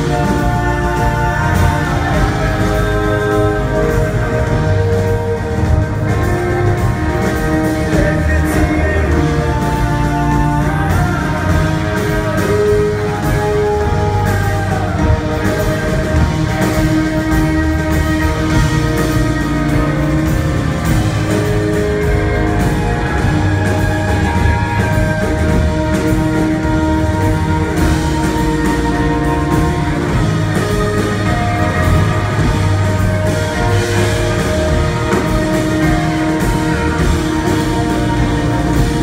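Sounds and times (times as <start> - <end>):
drum kit: 0.0 - 39.0
electric guitars: 0.0 - 39.0
violin: 0.0 - 39.0.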